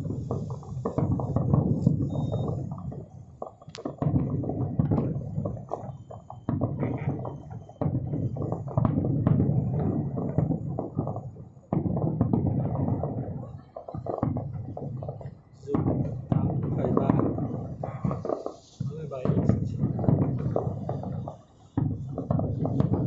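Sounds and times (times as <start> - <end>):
distant fireworks booming and crackling: 0.0 - 23.0.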